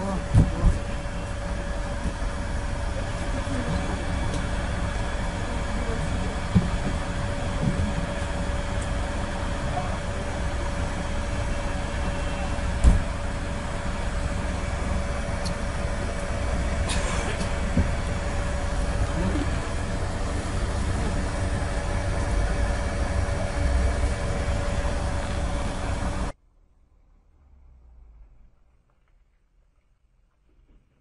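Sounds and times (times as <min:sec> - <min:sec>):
vehicle interior rumble: 0:00.0 - 0:31.0.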